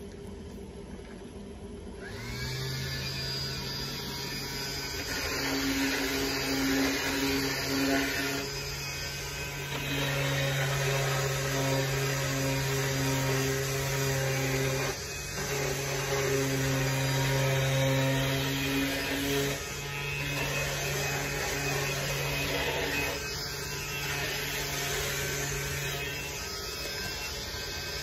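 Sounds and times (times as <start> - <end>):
power tool cutting timber: 2.0 - 28.0.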